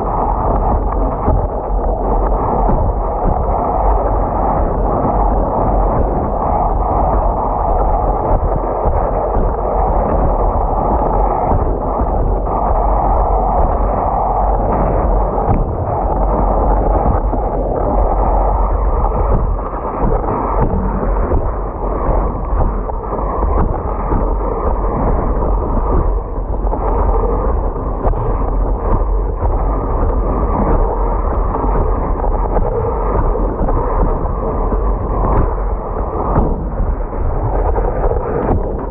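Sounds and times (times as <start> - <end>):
low rumble: 0.0 - 38.9
water rushing under board: 0.0 - 38.9
wind buffeting microphone: 0.0 - 38.9.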